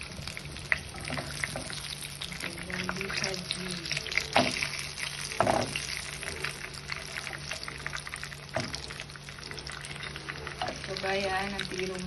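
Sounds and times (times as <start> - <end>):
shrimp frying in oil: 0.0 - 12.0.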